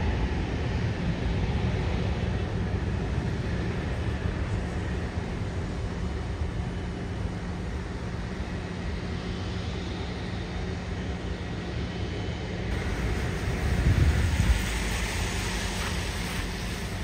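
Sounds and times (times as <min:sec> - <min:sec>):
jet engines at takeoff thrust: 0:00.0 - 0:17.0.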